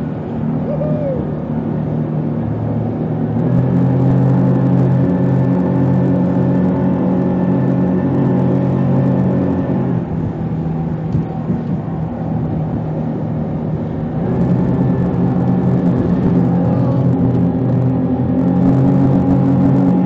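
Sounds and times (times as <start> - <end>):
boat engine running: 0.0 - 20.0
wind noise on microphone: 0.0 - 20.0.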